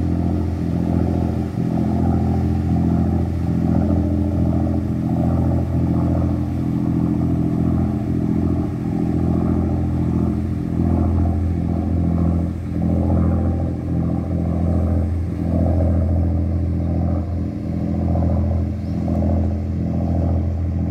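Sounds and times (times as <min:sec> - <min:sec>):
boat engine droning: 0:00.0 - 0:20.9.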